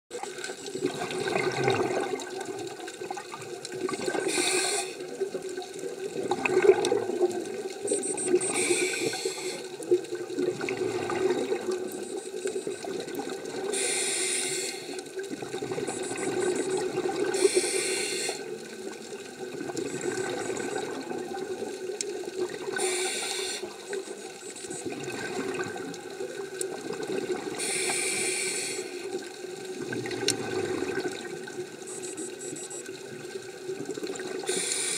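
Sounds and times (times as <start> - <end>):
exhaled bubbles underwater: 0.1 - 28.3, 28.9 - 34.9
steady underwater hum: 0.1 - 34.9.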